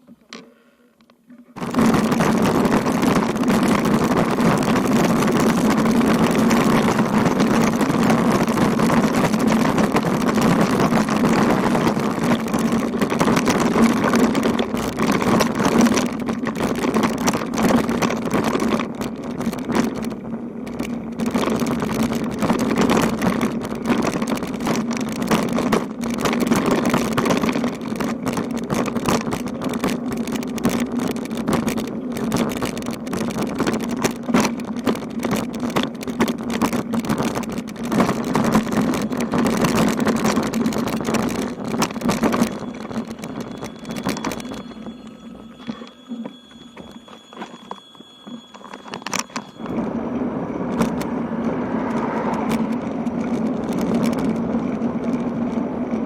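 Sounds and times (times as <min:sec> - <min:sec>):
small knocks and rattles: 0:00.0 - 0:49.8
bicycle rumbling on rough road: 0:00.0 - 0:56.0.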